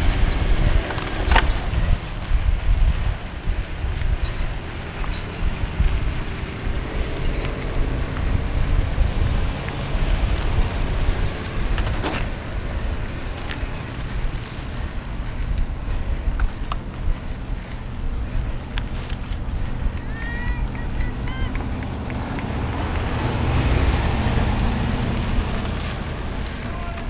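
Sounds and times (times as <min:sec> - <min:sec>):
bike clicks and rattles: 0:00.0 - 0:23.6
bike rolling on dirt trail: 0:00.0 - 0:27.0
wind buffeting microphone: 0:00.0 - 0:27.0.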